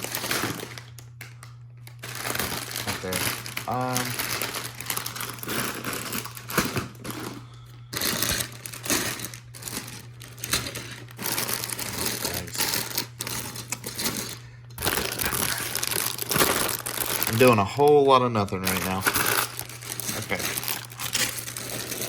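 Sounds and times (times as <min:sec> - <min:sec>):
plastic bags rustling: 0:00.0 - 0:22.0
small plastic parts rattling: 0:00.0 - 0:22.0.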